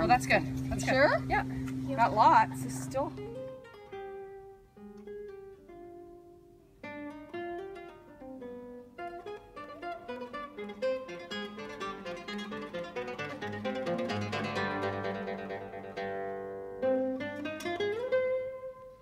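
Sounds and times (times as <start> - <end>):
plucked guitar music: 0.0 - 19.0.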